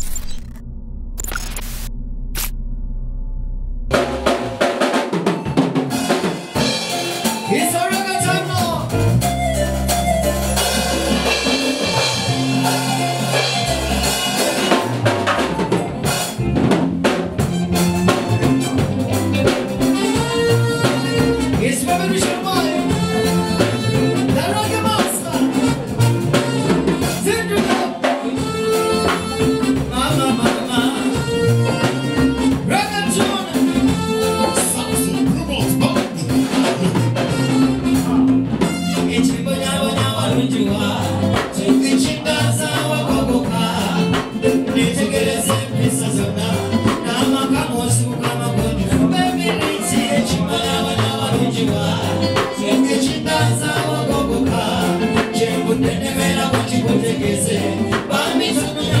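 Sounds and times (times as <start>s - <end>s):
drum kit beat: 3.9s - 59.0s
live band playing: 3.9s - 59.0s.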